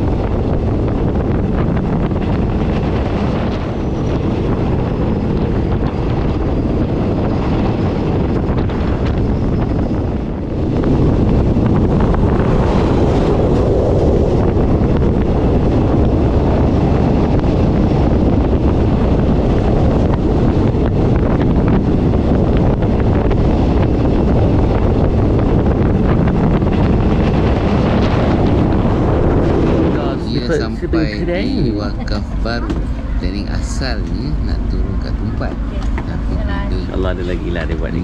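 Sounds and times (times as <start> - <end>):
train carriages rumbling on track: 0.0 - 38.0
wind on microphone: 0.0 - 38.0.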